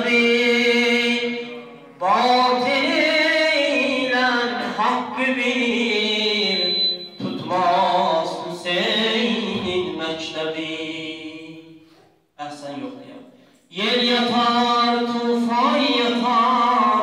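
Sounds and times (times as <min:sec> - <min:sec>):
man singing into a microphone: 0:00.0 - 0:11.8, 0:13.7 - 0:17.0.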